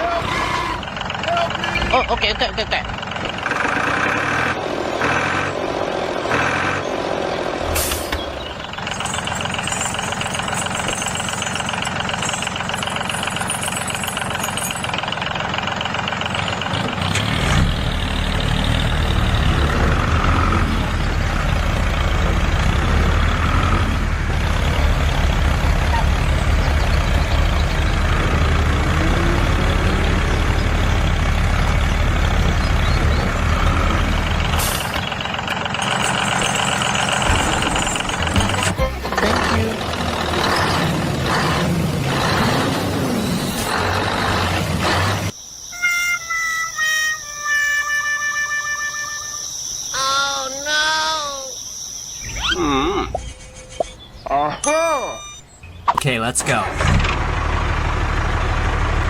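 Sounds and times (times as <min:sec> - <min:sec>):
heavy truck engine running: 0:00.0 - 0:45.4, 0:55.8 - 0:59.0.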